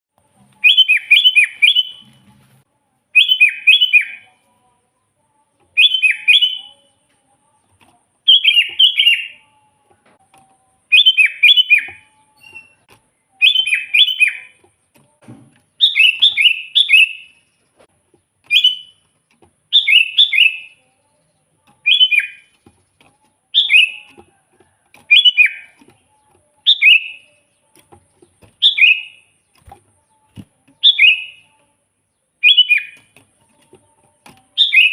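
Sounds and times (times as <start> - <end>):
bulbul singing bubbly phrases: 0.2 - 17.5, 18.4 - 19.0, 19.7 - 34.9.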